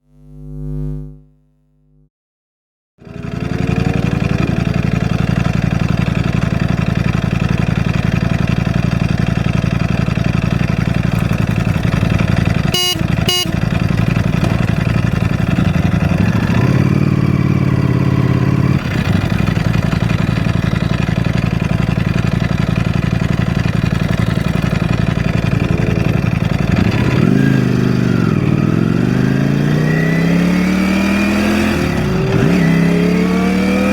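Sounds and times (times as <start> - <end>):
motorcycle engine idling and revving: 3.0 - 33.9.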